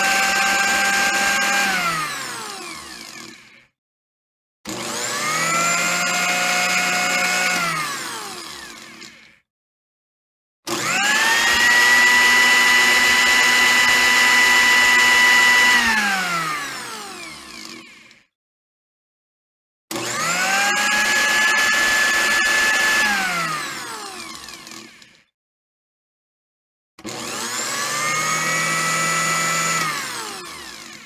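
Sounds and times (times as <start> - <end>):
blender motor whining: 0.0 - 3.6, 4.7 - 9.4, 10.7 - 18.2, 19.9 - 25.2, 27.0 - 31.0.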